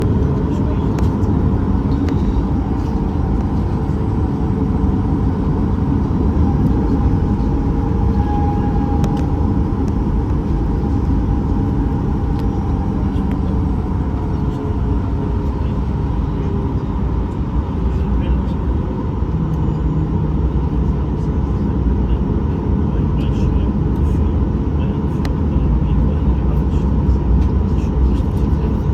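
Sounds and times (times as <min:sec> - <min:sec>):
jet engine rumble in cabin: 0:00.0 - 0:28.9.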